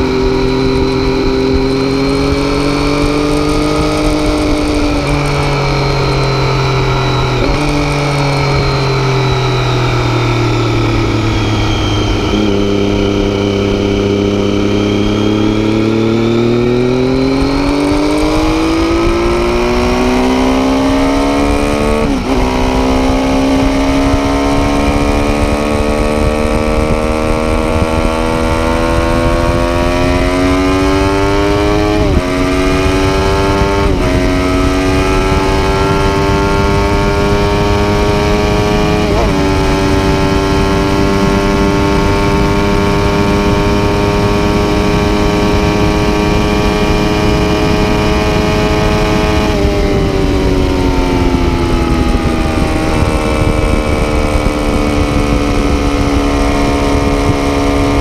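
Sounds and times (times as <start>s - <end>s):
motorcycle engine accelerating: 0.0s - 58.0s
motorcycle quick upshifts: 0.0s - 58.0s.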